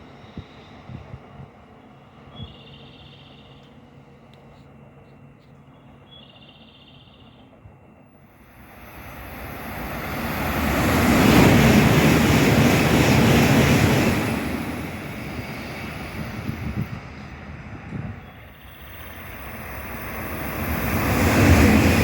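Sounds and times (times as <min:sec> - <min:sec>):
train passing at high speed: 0:00.0 - 0:05.0, 0:07.6 - 0:22.0.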